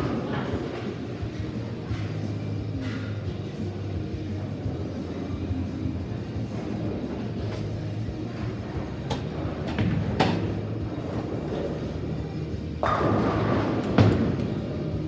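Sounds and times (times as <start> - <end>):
bowling balls rolling: 0.0 - 2.9, 3.8 - 15.0.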